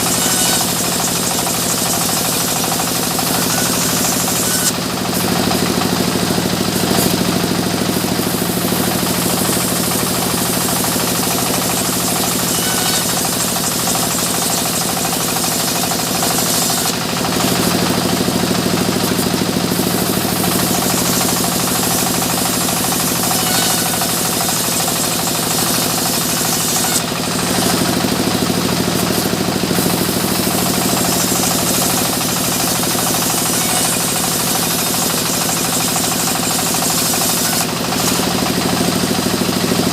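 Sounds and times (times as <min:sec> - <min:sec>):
saw cutting timber: 0:00.0 - 0:39.9
sawmill machinery running: 0:00.0 - 0:39.9.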